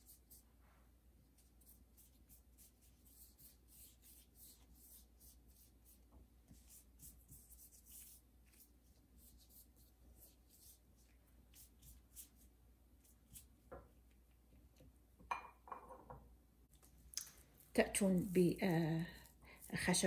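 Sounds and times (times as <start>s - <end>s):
pastry brush swishing strokes: 0.0s - 13.6s, 17.6s - 20.0s.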